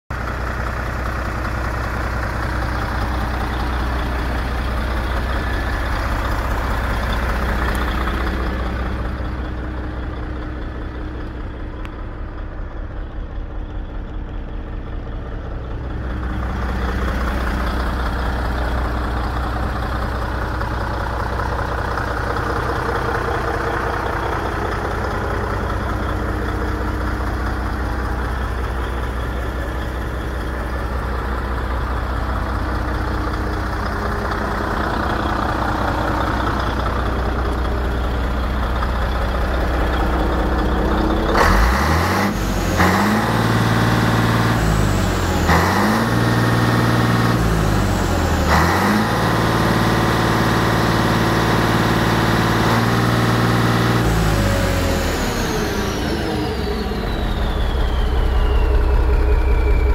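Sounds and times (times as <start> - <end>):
diesel truck engine idling: 0.1 - 59.9.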